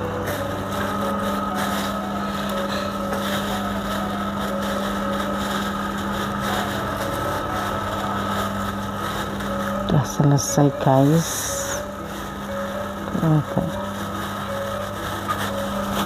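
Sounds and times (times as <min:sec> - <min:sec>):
plastic glove rustling: 0:00.0 - 0:16.0
steady machine hum: 0:00.0 - 0:16.0.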